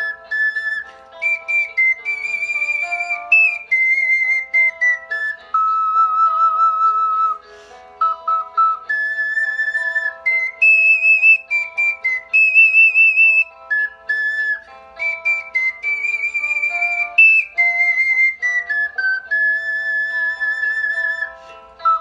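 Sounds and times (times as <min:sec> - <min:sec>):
ocarina melody: 0:00.0 - 0:22.0.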